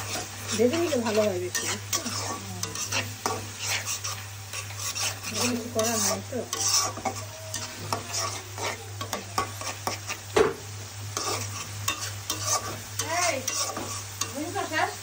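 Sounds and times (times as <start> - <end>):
food sizzling in a pan: 0.0 - 15.0
spatula scraping a pan: 0.0 - 15.0.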